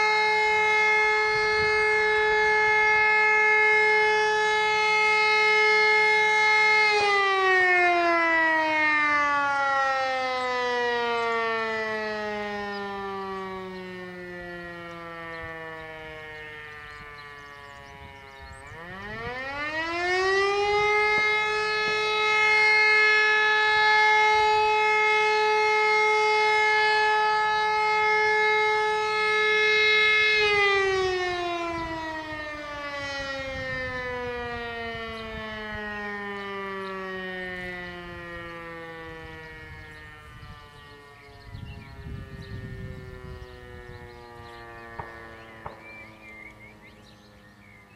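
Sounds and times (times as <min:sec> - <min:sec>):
electro-mechanical siren wailing: 0:00.0 - 0:47.9.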